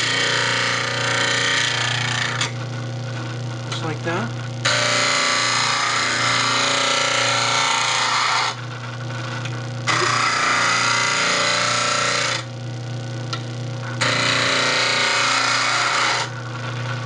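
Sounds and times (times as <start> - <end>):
bench grinder motor hum: 0.0 - 12.6, 13.3 - 17.0.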